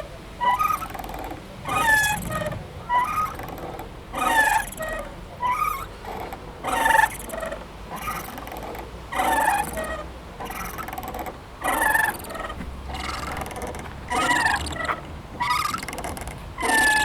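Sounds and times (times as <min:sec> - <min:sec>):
swing squeaking: 0:00.0 - 0:17.0.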